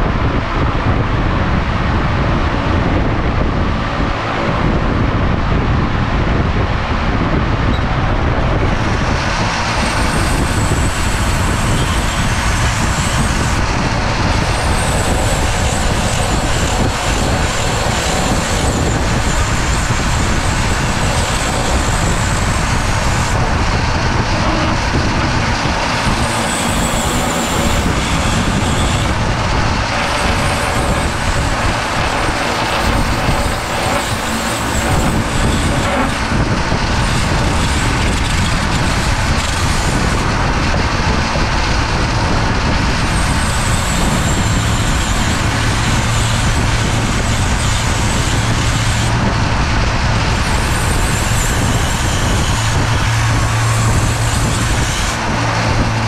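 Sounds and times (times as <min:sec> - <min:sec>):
rumble and hiss: 0:00.0 - 0:56.0
rotary tool whining: 0:07.7 - 0:56.0.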